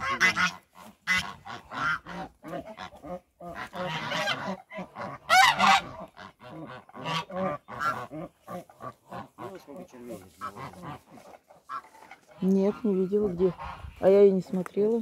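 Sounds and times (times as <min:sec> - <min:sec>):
geese honking: 0:00.0 - 0:14.6.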